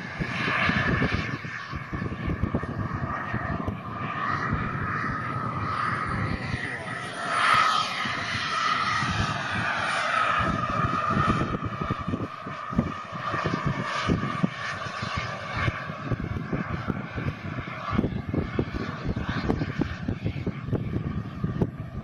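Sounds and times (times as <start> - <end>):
model jet turbine whine flying past: 0.0 - 22.0
wind buffeting the microphone: 0.0 - 22.0.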